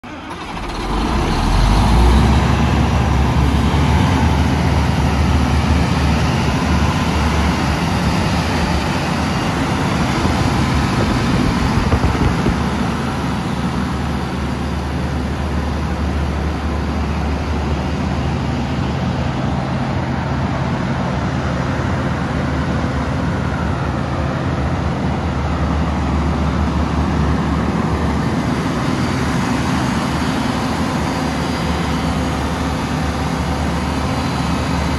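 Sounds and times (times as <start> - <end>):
diesel compressor engine droning: 0.0 - 34.9.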